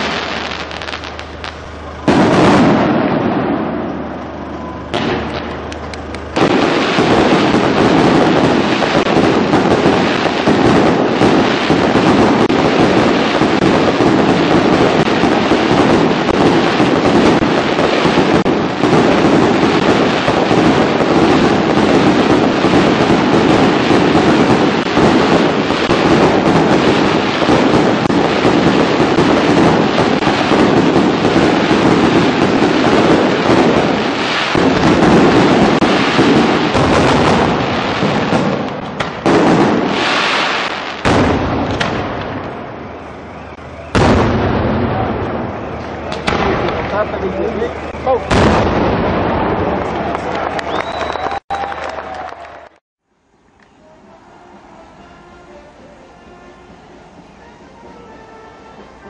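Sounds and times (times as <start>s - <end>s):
firework bangs: 0.0s - 52.8s
fireworks crackling: 0.0s - 59.0s.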